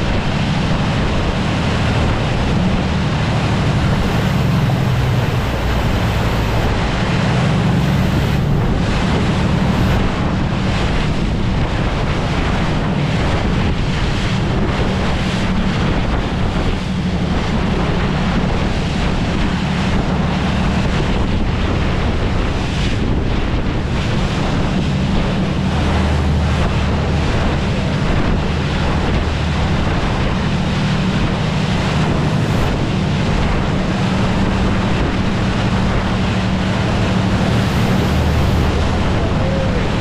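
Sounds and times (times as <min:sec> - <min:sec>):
boat engine droning: 0:00.0 - 0:40.0
rushing water: 0:00.0 - 0:40.0
wind buffeting microphone: 0:00.0 - 0:40.0.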